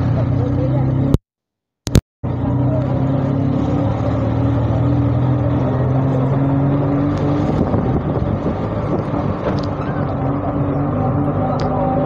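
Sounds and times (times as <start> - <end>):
rushing road noise: 0.0 - 1.2, 2.2 - 12.0.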